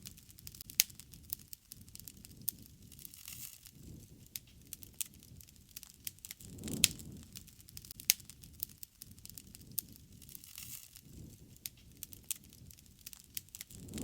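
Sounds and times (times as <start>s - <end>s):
campfire crackling: 0.0s - 14.0s
low rush of flame: 0.0s - 14.0s
sharp pops of fire: 0.0s - 14.0s.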